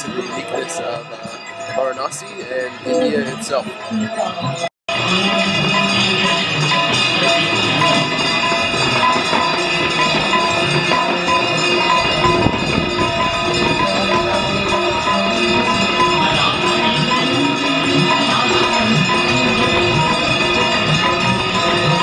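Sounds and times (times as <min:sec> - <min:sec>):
jingling tambourine-like percussion: 0:00.0 - 0:22.0
steady held tone: 0:00.0 - 0:22.0.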